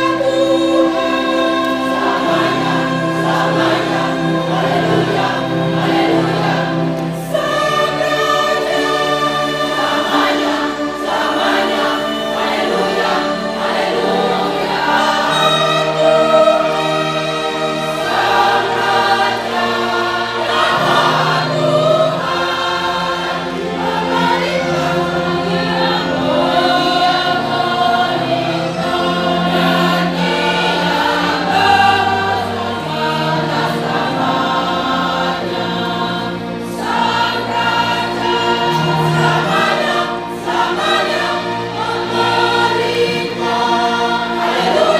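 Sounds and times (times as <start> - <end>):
mixed choir singing in harmony: 0.0 - 44.9.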